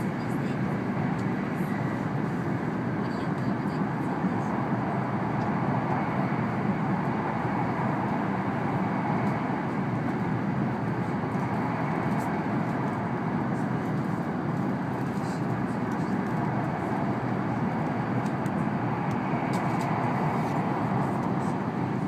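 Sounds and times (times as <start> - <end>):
train running noise inside cabin: 0.0 - 22.0.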